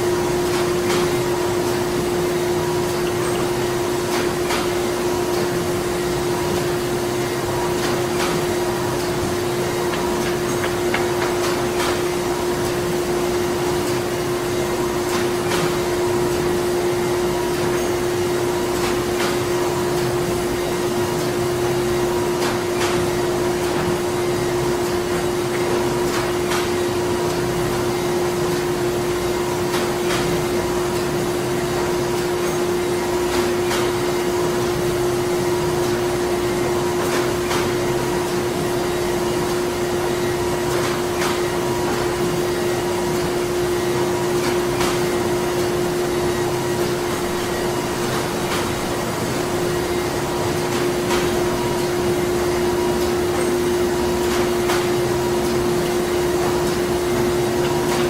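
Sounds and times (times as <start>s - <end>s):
factory machinery humming: 0.0s - 58.0s.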